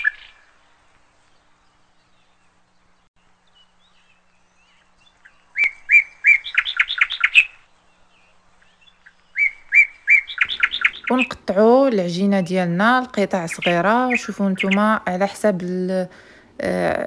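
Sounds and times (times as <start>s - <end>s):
small bird singing: 0.0s - 17.0s.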